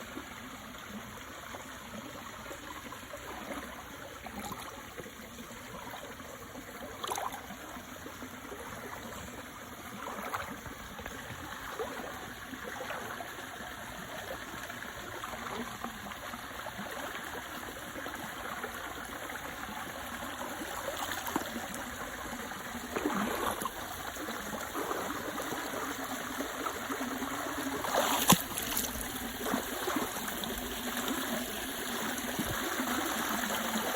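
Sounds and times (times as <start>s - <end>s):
stream trickling and gurgling: 0.0s - 33.9s.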